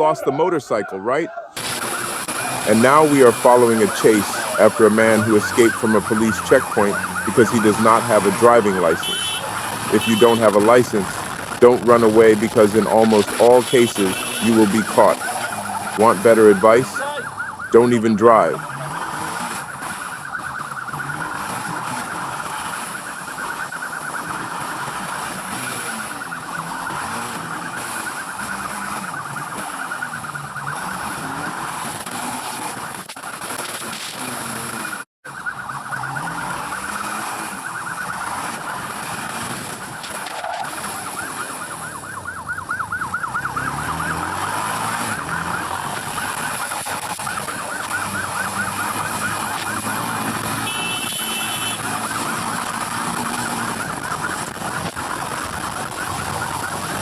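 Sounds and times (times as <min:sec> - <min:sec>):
police siren wailing: 0:00.0 - 0:57.0
motorcycle engine revving: 0:01.6 - 0:57.0.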